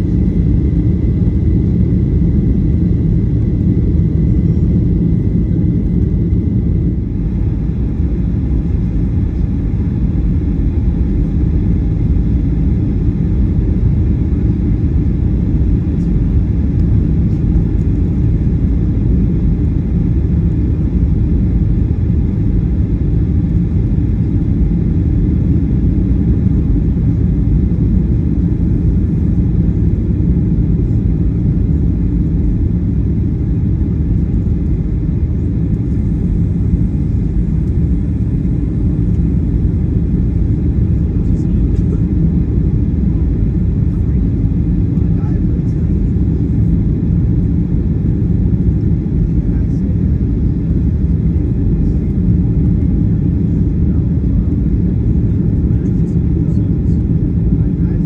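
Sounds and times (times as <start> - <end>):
aircraft cabin rumble: 0.0 - 58.0.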